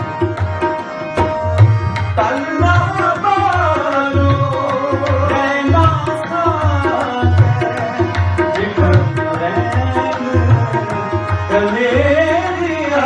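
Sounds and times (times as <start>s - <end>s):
harmonium held notes: 0.0s - 13.0s
tabla rhythm: 0.0s - 13.0s
man singing: 2.1s - 13.0s.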